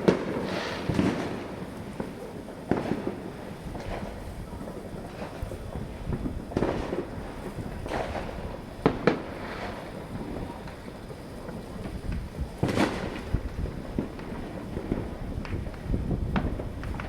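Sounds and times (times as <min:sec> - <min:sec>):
fireworks booming: 0:00.0 - 0:17.0
fireworks sharp cracks: 0:00.0 - 0:17.0.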